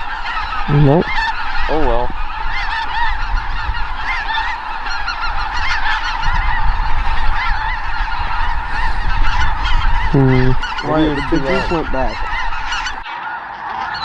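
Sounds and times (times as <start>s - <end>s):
geese calling: 0.0s - 14.0s.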